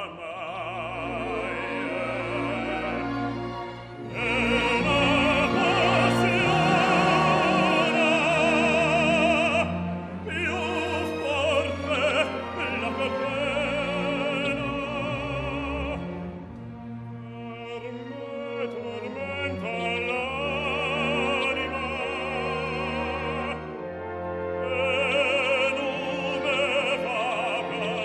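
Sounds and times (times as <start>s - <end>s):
baritone singing: 0.0s - 16.3s, 17.2s - 28.0s
symphony orchestra: 0.0s - 28.0s.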